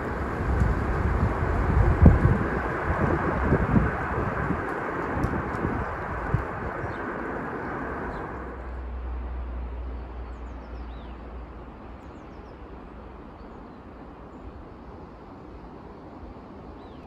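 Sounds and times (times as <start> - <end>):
steady rushing noise: 0.0 - 17.0
wind rumble on microphone: 0.0 - 17.0.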